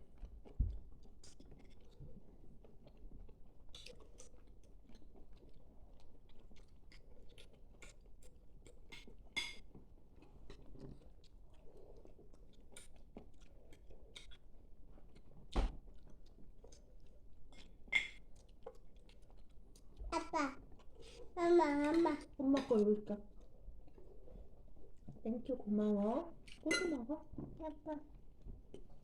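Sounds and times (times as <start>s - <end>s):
person chewing food: 0.0s - 22.4s, 23.2s - 25.2s, 26.3s - 26.7s, 28.0s - 29.0s.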